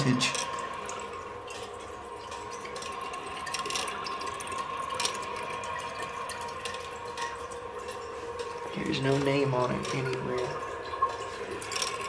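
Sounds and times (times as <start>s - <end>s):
water filling toilet tank: 0.0s - 12.0s.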